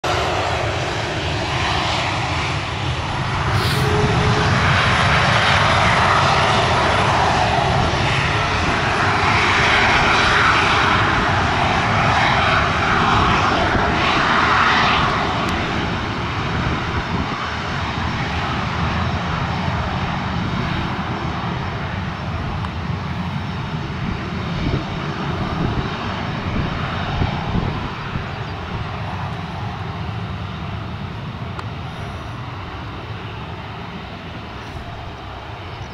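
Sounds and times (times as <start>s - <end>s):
jet engines at taxi power: 0.0s - 35.9s.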